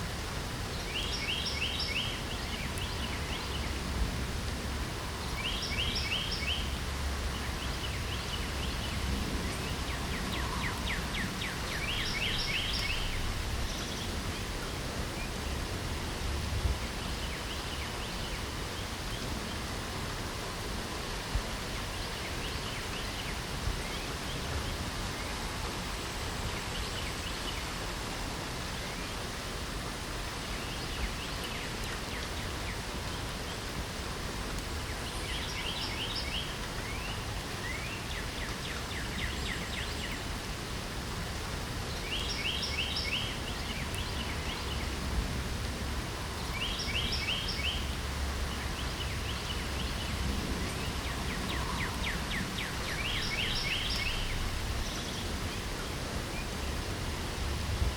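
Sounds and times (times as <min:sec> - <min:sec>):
songbirds singing: 0:00.0 - 0:27.8, 0:30.2 - 0:57.9
rain hiss: 0:00.0 - 0:57.9.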